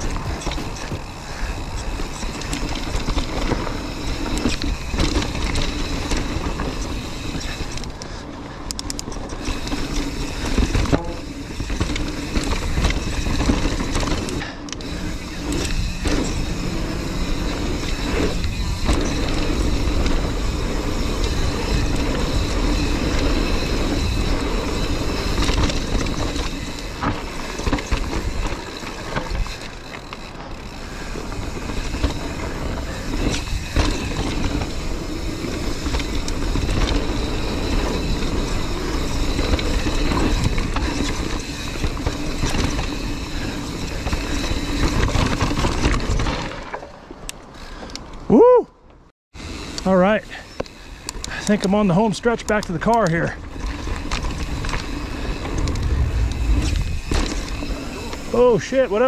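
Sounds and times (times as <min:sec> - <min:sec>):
bike rattling over rough ground: 0:00.0 - 0:48.3, 0:49.4 - 0:59.0
bike tyres on dirt trail: 0:00.0 - 0:59.0.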